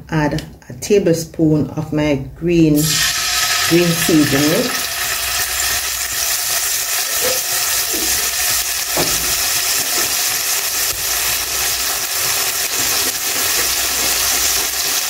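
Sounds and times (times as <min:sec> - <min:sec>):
paste sizzling in hot oil: 0:02.8 - 0:15.0.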